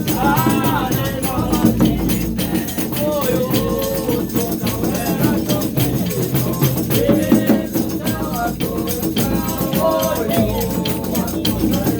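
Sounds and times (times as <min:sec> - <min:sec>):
shaken and struck percussion: 0:00.0 - 0:11.9
voices singing a melody: 0:00.0 - 0:11.9.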